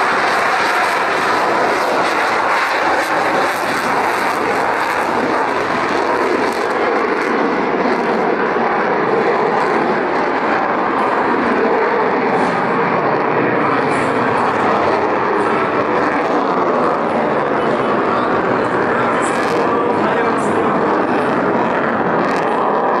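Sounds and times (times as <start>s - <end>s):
fighter jet engines roaring: 0.0s - 23.0s.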